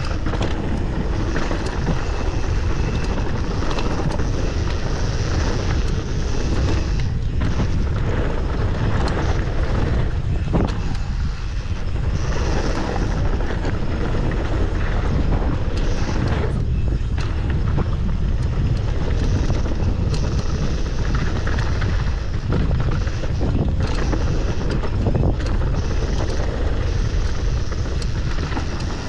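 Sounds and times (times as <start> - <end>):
bike rattling: 0.0 - 29.0
tyres clicking on dirt and stones: 0.0 - 29.0
wind buffeting microphone: 0.0 - 29.0.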